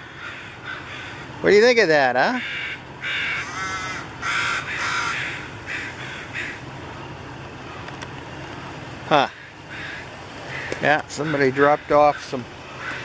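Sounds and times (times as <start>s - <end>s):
ravens cawing and croaking: 0.0s - 8.0s, 9.0s - 13.0s.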